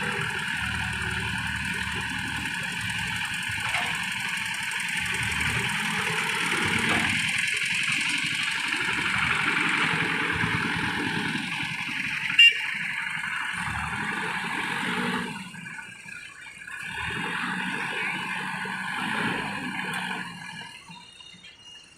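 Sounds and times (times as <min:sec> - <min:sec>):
heavy machine engine running: 0:00.0 - 0:21.5.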